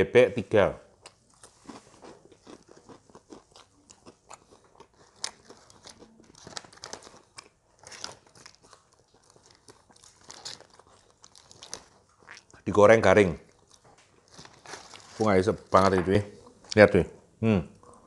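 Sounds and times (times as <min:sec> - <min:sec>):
crispy food crunching: 0:00.9 - 0:16.8.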